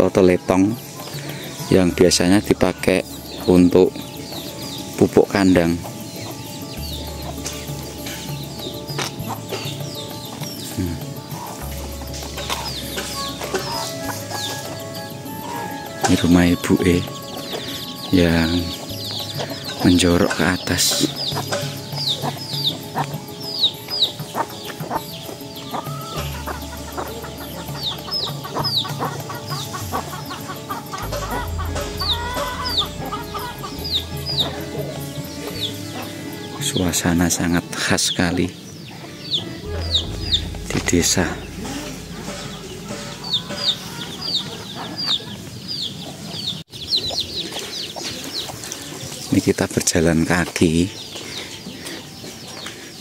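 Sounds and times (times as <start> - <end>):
background music: 0.0 - 53.0
chickens clucking: 0.0 - 53.0.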